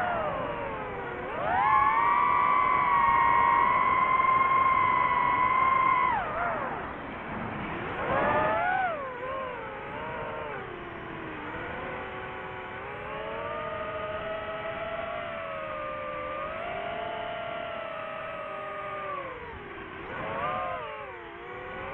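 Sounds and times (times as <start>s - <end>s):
drone propellers whining: 0.0s - 21.9s.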